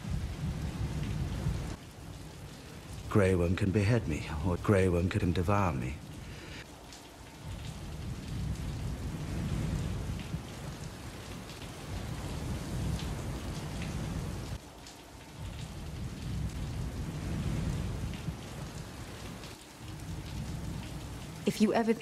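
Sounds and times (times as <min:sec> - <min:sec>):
low rolling thunder: 0:00.0 - 0:06.4, 0:07.3 - 0:21.5
steady rain: 0:00.0 - 0:22.0.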